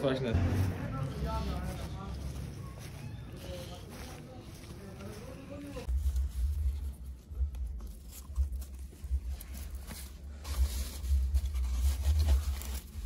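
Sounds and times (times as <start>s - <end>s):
straw and foam pad rustling: 0.6s - 13.0s.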